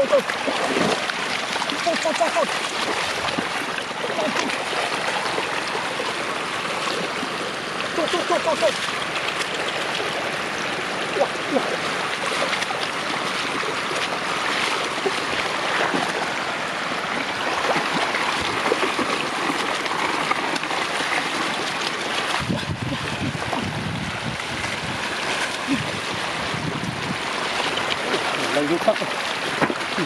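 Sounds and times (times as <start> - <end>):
floodwater rushing: 0.0 - 30.0
small water splashes: 0.0 - 30.0.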